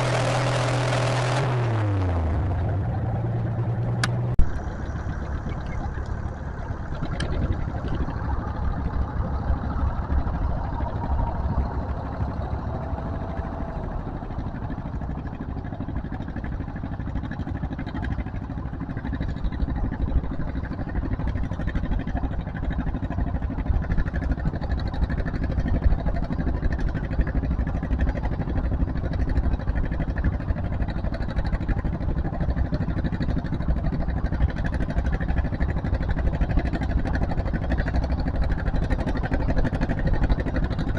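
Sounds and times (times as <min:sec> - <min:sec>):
tractor engine rumbling: 0:00.0 - 0:40.9.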